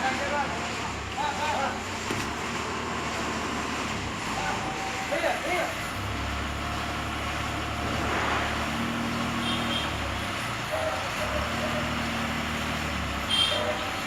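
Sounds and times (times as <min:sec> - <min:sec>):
heavy vehicle engine rumble: 0:00.0 - 0:14.0.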